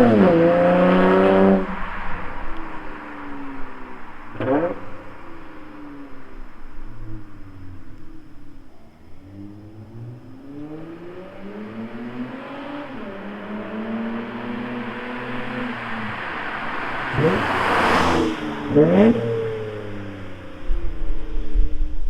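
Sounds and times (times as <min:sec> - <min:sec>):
car engine revving: 0:00.0 - 0:21.7.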